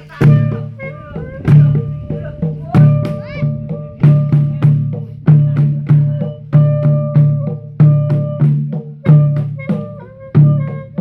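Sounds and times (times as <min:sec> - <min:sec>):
amplified drums on a steady beat: 0:00.0 - 0:11.0.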